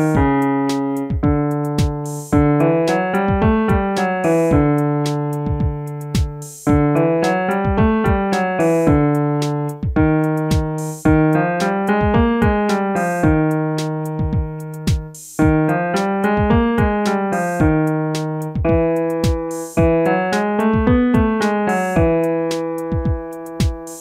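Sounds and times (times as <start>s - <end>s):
piano playing scale exercise: 0.0s - 24.0s.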